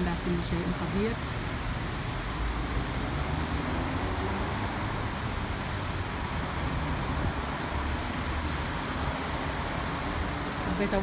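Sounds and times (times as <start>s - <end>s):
traffic: 0.0s - 11.0s
wind rumbling on microphone: 0.2s - 11.0s.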